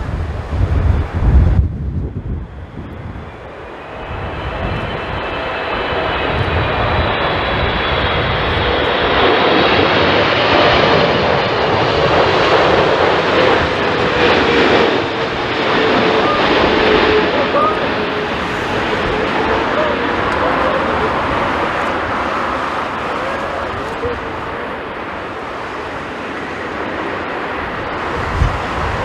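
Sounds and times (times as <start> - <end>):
jet engines rushing: 0.0 - 29.0
faint engine whine: 2.0 - 29.0.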